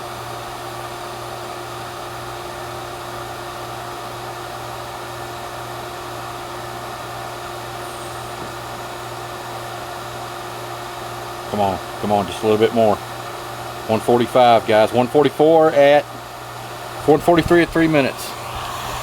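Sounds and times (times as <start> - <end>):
vacuum pump motor hum: 0.0 - 19.0.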